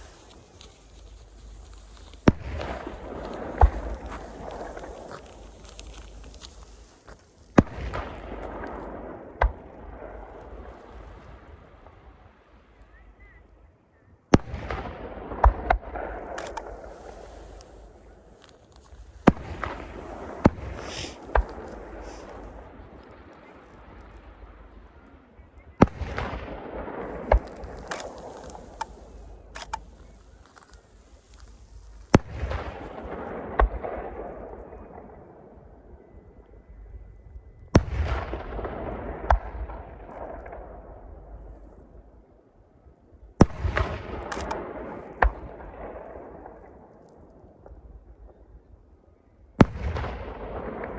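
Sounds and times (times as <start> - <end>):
firework crackle and rumble: 0.0 - 13.0, 14.4 - 36.0, 37.8 - 42.3, 43.4 - 49.0, 49.6 - 50.9.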